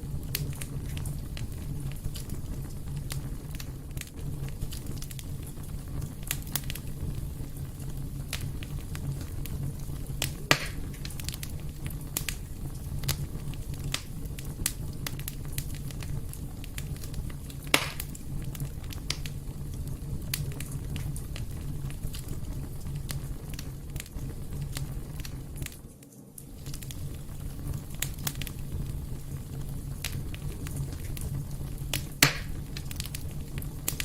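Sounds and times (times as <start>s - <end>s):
fire popping: 0.0s - 34.0s
wood fire crackling: 0.0s - 34.0s.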